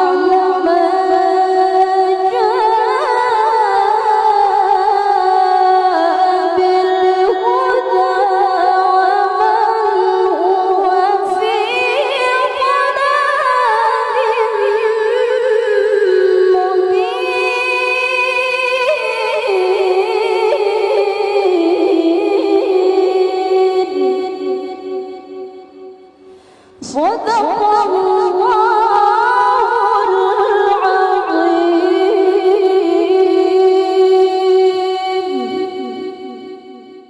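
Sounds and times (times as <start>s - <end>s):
woman reciting melodically: 0.0s - 25.9s, 26.7s - 37.0s.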